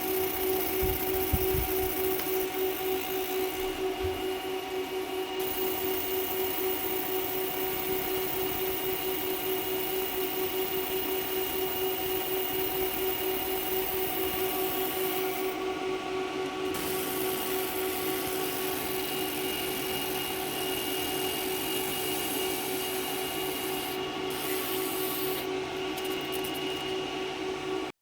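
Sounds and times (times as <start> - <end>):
machine hum: 0.0 - 27.9.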